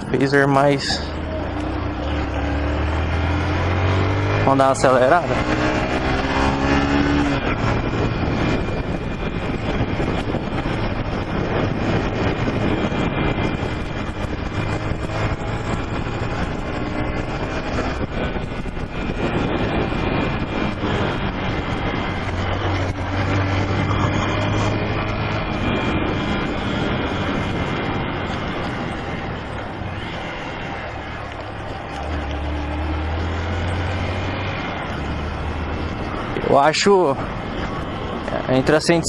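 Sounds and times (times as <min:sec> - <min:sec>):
motorcycle engine running: 0:00.0 - 0:39.0
wind rush on microphone: 0:00.0 - 0:39.0.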